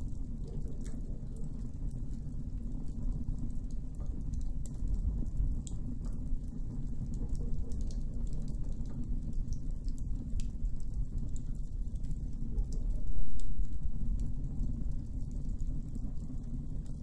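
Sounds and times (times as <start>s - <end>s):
campfire low rumble: 0.0s - 17.0s
fire crackles and pops: 0.0s - 17.0s.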